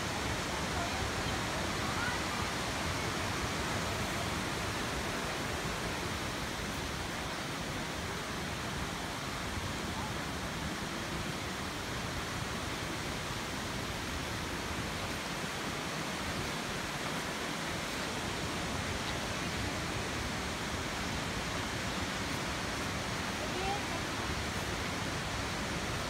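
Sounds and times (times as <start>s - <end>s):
waterfall rushing onto rocks: 0.0s - 26.0s.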